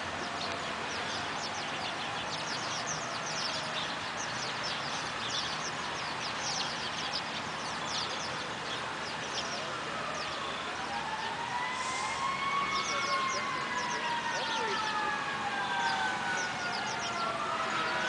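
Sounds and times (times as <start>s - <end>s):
flock of small birds chirping: 0.0s - 18.0s
rushing background noise: 0.0s - 18.0s.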